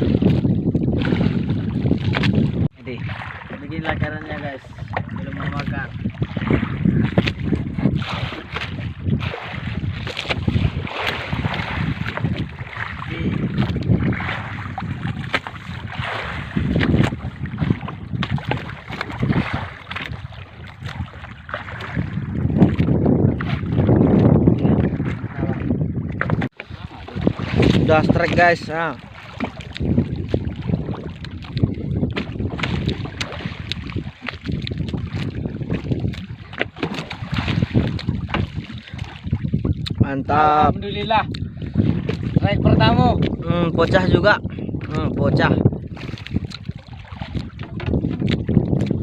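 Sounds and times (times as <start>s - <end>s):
water sloshing around boat: 0.0s - 49.0s
wind buffeting microphone: 0.0s - 49.0s.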